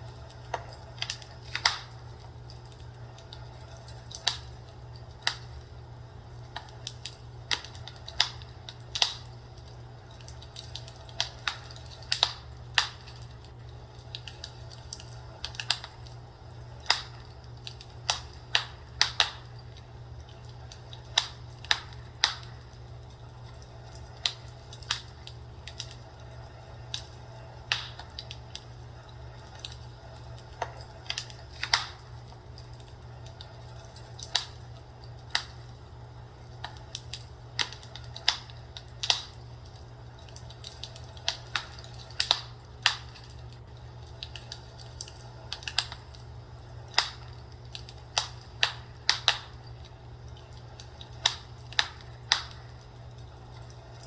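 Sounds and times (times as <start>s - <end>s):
fireplace crackling: 0.0s - 54.0s
steady low hum: 0.0s - 54.0s.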